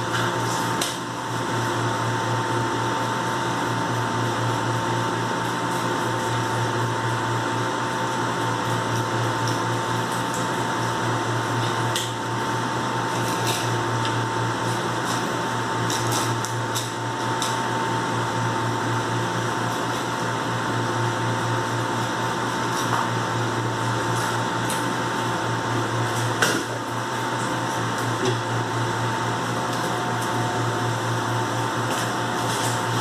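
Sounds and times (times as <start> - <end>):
machine hum with high whine: 0.0 - 33.0.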